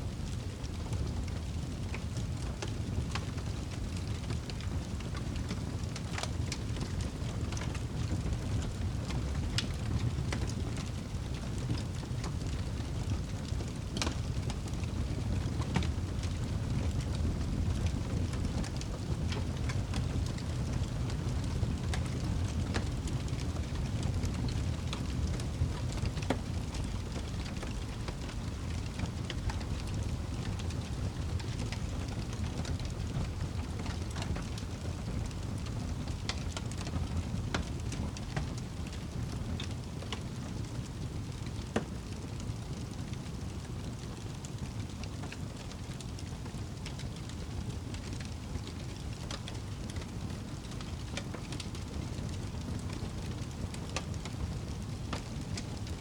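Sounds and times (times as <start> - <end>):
logs crackling and popping: 0.0 - 56.0.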